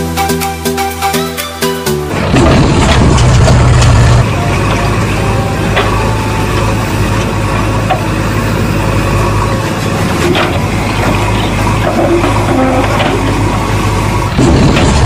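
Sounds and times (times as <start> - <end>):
heavy engine low rumble: 1.8 - 15.0.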